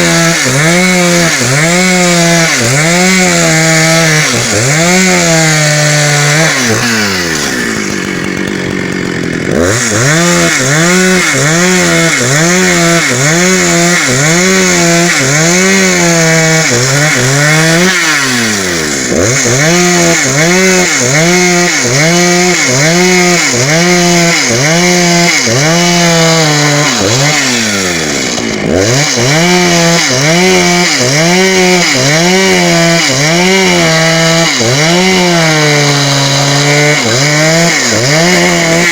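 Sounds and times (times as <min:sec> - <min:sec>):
chainsaw cutting dry wood: 0:00.0 - 0:38.9.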